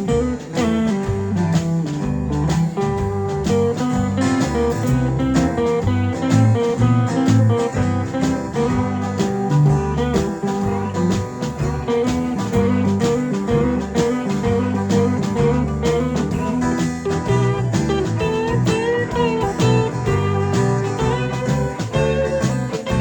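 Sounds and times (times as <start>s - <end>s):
bass line: 0.0s - 23.0s
plucked blues guitar: 0.0s - 23.0s.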